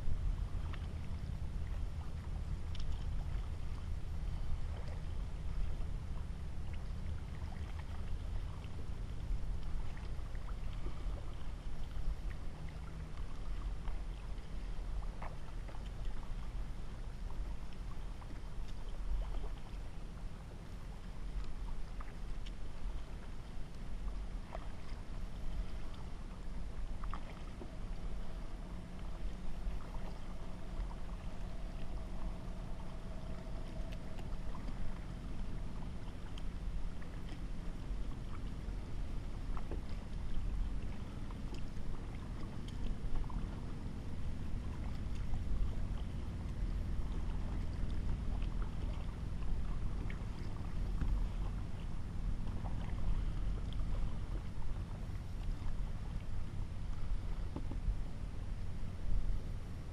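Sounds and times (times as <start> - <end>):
paddle strokes splashing in water: 0.0 - 59.9
steady low rumble: 0.0 - 59.9.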